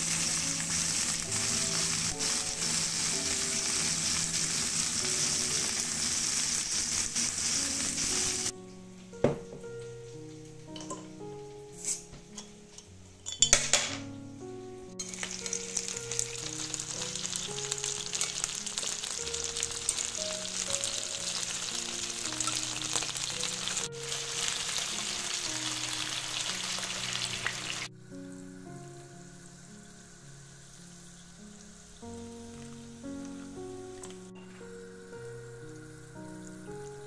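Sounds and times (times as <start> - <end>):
chicken wings sizzling in oil: 0.0 - 8.5, 15.0 - 37.0.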